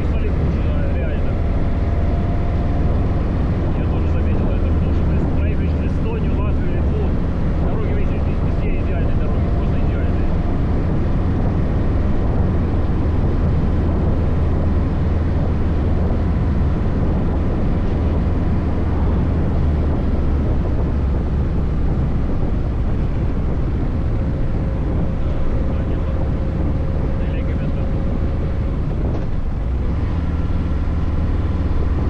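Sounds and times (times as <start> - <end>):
motorcycle engine droning: 0.0 - 32.0
wind noise on microphone: 0.0 - 32.0.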